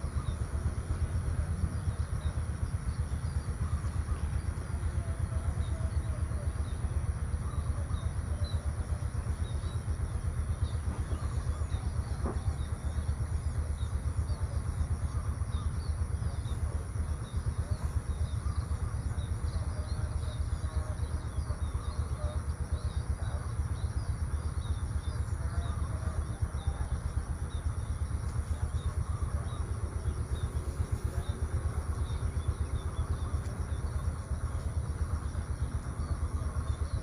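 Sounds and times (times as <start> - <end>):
birds chirping faintly: 0.0 - 37.0
constant high hiss: 0.0 - 37.0
low fluttering rumble: 0.0 - 37.0.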